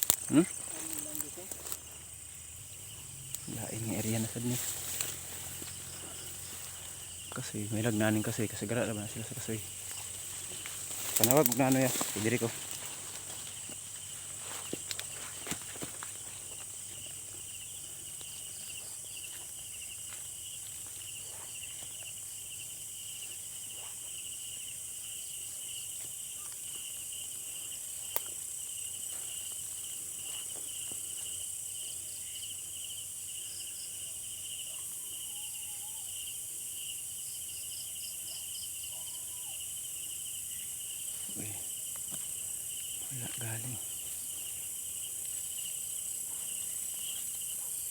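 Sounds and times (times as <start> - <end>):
high-pitched insect hiss: 0.0 - 47.9
night insects trilling: 0.0 - 47.9.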